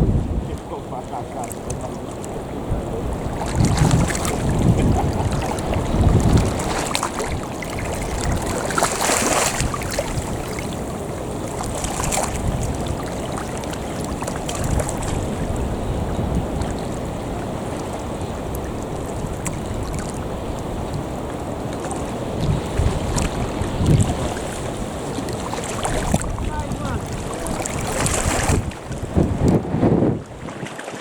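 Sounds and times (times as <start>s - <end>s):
waves rushing: 0.0s - 31.0s
wind buffeting microphone: 0.0s - 31.0s.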